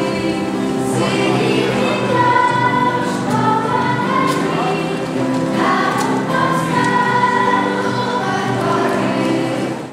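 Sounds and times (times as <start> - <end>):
children's choir singing: 0.0 - 9.9.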